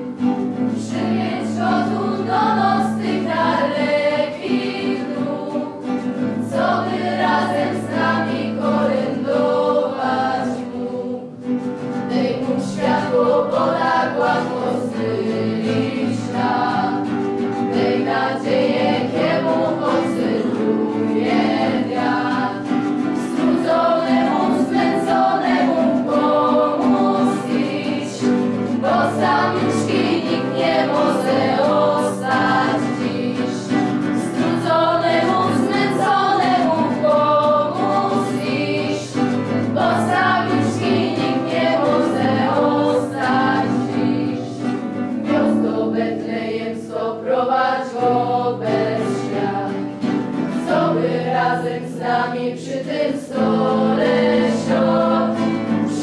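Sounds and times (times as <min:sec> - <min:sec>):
group singing a carol: 0:00.0 - 0:56.0.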